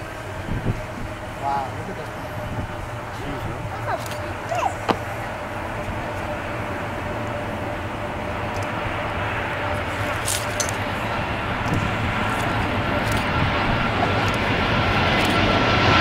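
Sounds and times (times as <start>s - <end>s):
jet engines rushing with whine: 0.0s - 16.0s.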